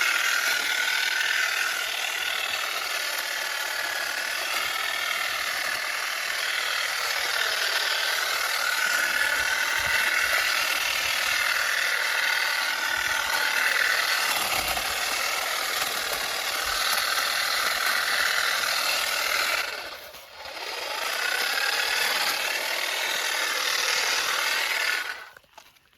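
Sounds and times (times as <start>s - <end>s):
hedge trimmer whirring: 0.0s - 25.9s.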